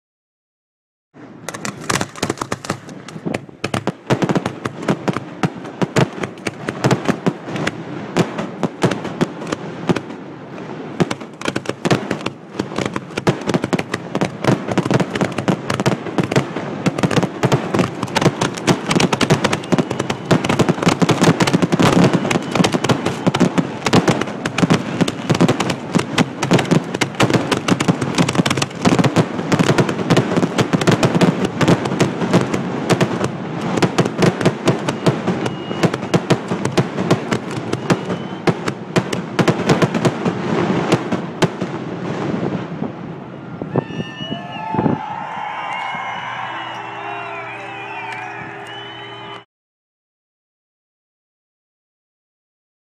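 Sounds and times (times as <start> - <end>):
fireworks bangs and cracks: 1.2 - 43.3, 44.4 - 49.2.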